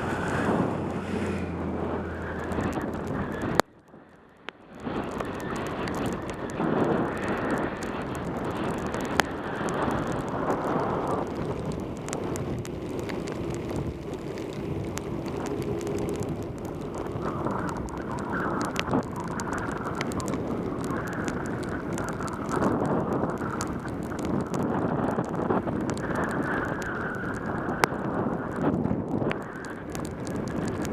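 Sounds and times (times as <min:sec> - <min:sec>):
wind and rain rushing: 0:00.0 - 0:30.9
sharp ticks: 0:02.2 - 0:30.9.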